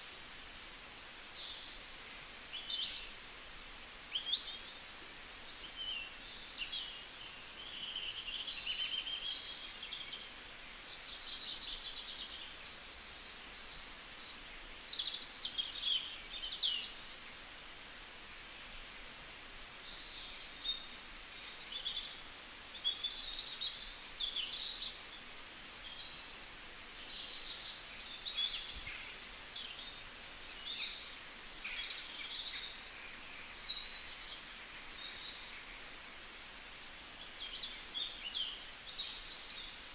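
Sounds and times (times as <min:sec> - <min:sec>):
birds chirping and twittering: 0:00.0 - 0:39.9
faint steady hiss: 0:00.0 - 0:39.9.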